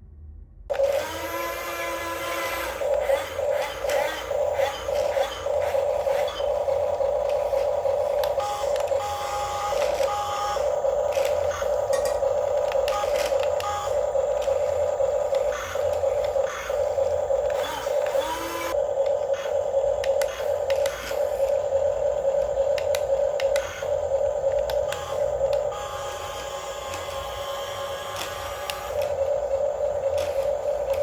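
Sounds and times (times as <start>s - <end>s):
electric motors whining: 0.7s - 31.0s.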